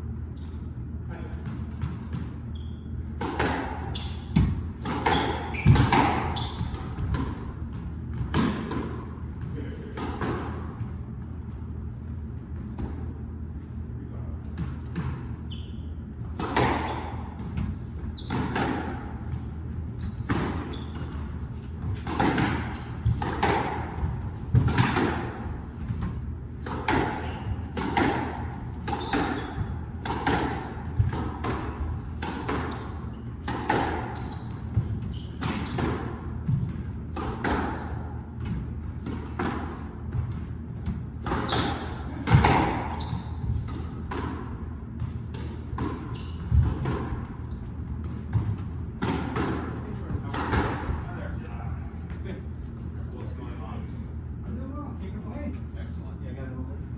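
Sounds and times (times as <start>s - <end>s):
squash ball hitting racquets and walls: 0.0s - 52.4s
steady low hum: 0.0s - 56.9s.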